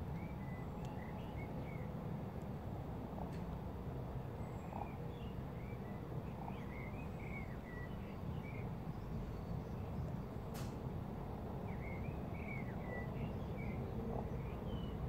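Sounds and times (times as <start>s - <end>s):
small songbirds chirping: 0.0s - 2.6s, 3.4s - 15.0s
steady low rumble: 0.0s - 15.0s.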